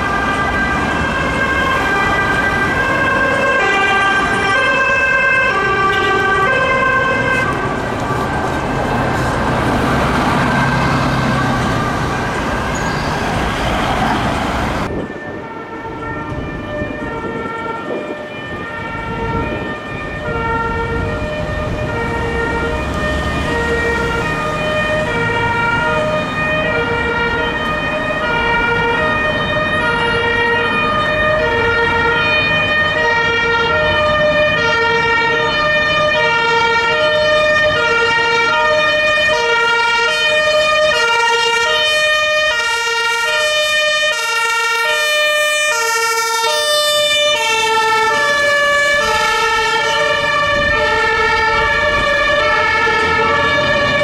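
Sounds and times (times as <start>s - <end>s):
bus passing in traffic: 0.0s - 54.0s
fire engine two-tone siren: 0.0s - 54.0s.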